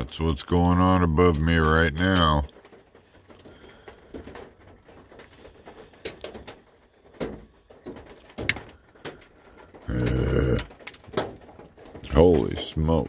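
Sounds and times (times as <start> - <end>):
rain and hail on metal roof: 0.0 - 13.0.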